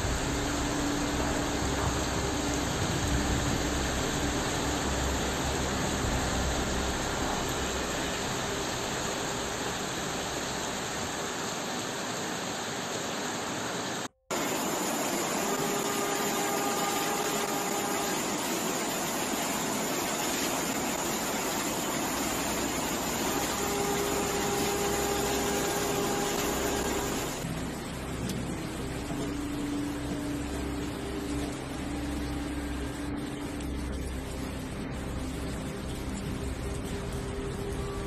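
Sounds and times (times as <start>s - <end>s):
floodwater and rain rushing: 0.0s - 38.0s.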